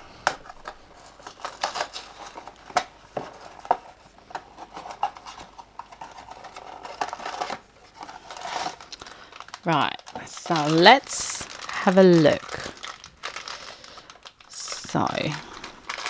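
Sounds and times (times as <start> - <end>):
cardboard rustle: 0.4 - 16.0.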